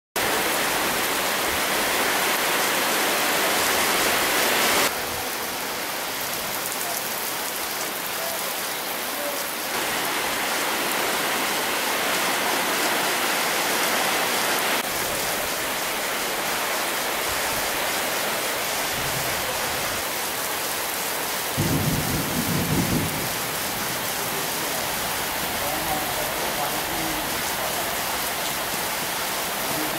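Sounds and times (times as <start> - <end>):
heavy rain pouring: 0.2 - 29.9.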